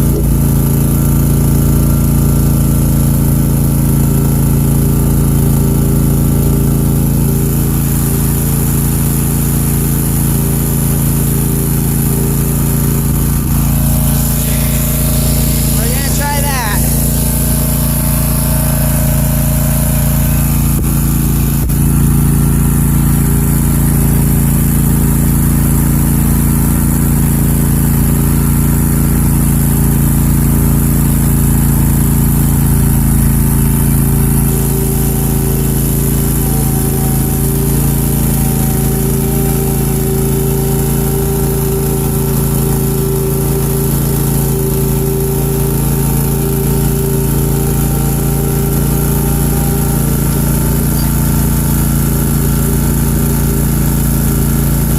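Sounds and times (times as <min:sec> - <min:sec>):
lawnmower engine running: 0:00.0 - 0:54.9.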